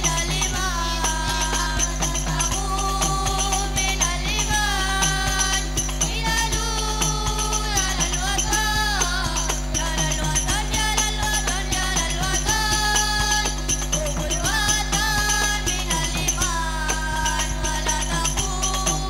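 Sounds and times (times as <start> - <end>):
frame drums beating: 0.0 - 19.0
religious song into microphones: 0.0 - 19.0
tambourine jingles: 0.0 - 19.0.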